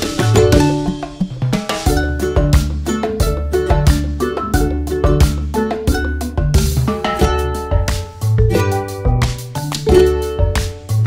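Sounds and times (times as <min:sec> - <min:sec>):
upbeat latin instrumental music: 0:00.0 - 0:11.0.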